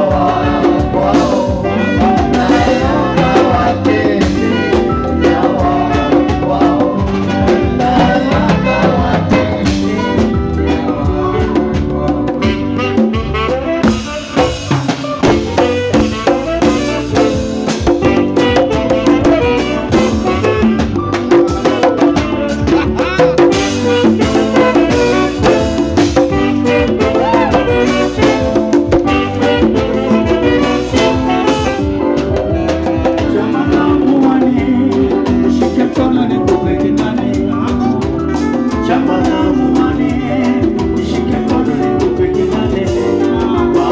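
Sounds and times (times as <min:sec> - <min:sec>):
live band playing dance music: 0:00.0 - 0:43.9
saxophone: 0:00.0 - 0:43.9.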